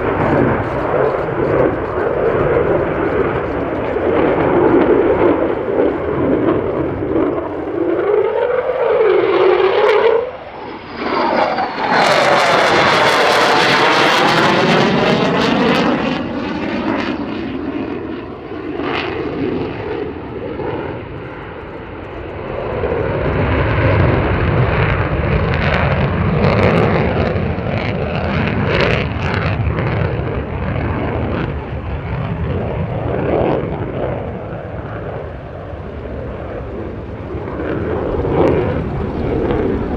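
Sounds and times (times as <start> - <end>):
deep low jet rumble: 0.0 - 39.9
jet flypast with phasing whoosh: 0.0 - 39.9.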